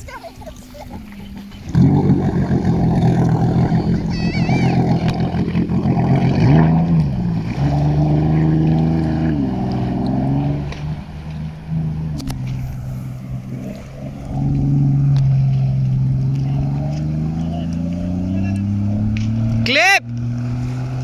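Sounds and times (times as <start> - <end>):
jet ski engine running hard: 0.0 - 21.0.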